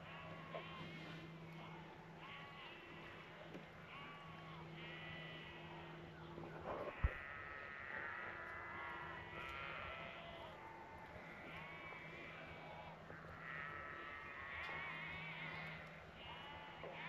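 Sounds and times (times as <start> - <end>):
distant sheep bleating: 0.0 - 17.0.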